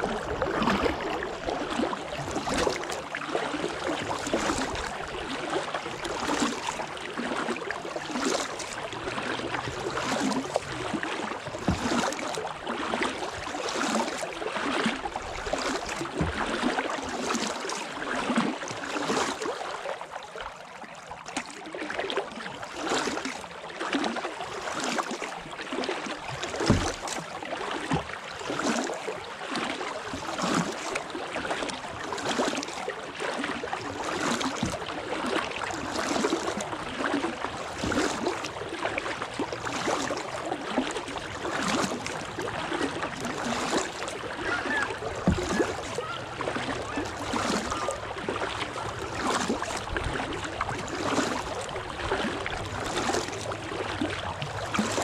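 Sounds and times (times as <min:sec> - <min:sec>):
kayak paddle splashing water: 0:00.0 - 0:55.0.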